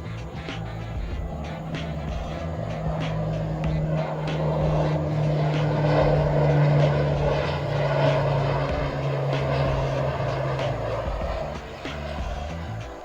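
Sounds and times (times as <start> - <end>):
motor drone with low hum: 0.0 - 13.0.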